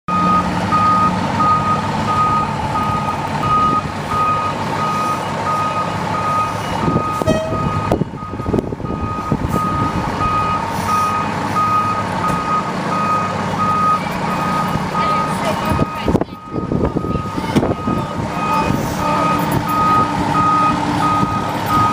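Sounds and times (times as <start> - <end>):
reverse alarm beeping: 0.1 - 21.9
truck engine running: 0.1 - 21.9.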